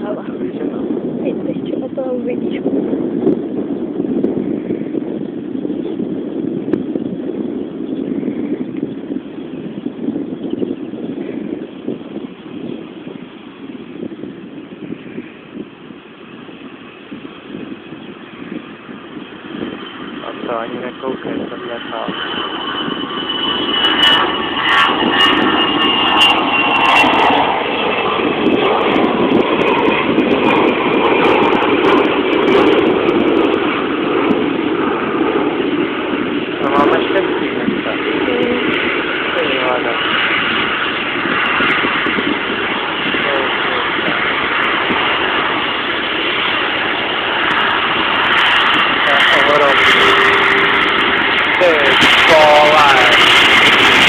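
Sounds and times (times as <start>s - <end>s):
jet engine roar with high whine: 0.0s - 54.0s.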